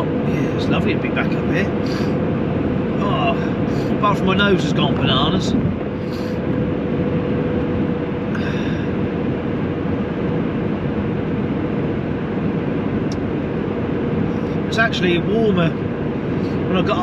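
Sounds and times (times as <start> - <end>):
car road and engine rumble: 0.0 - 17.0
thin steady hum: 0.0 - 17.0.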